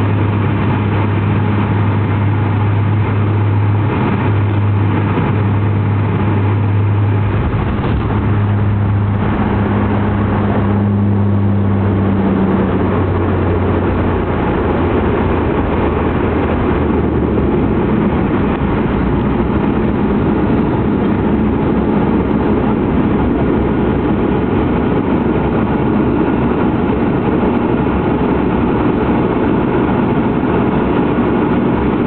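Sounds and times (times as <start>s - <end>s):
propeller engine droning: 0.0s - 32.0s.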